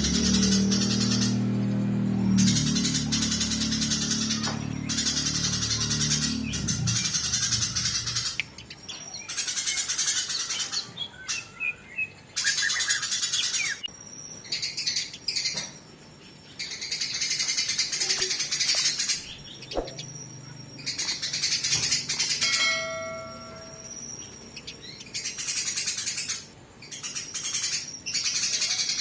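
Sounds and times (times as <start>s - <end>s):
sparrows chattering harshly: 0.0s - 29.0s.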